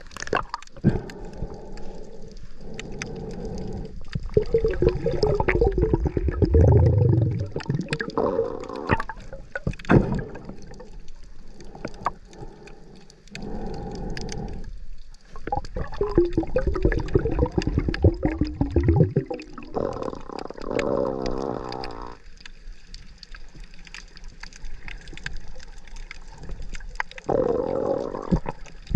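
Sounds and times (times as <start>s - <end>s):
small underwater pops and clicks: 0.0s - 28.9s
water gurgling and sloshing: 0.0s - 28.9s.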